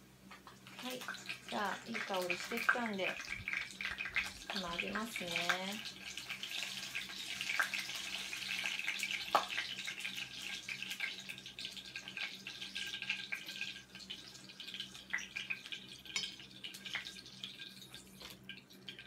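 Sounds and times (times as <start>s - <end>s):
vegetables sizzling in hot oil: 0.2s - 19.0s.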